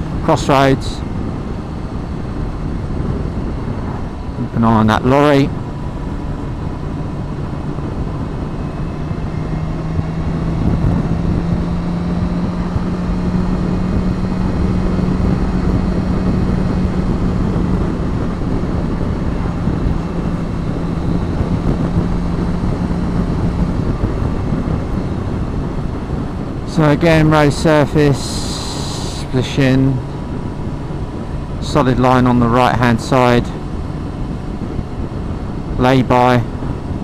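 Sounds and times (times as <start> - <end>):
motorcycle engine running: 0.0 - 37.0
wind rush over microphone: 0.0 - 37.0.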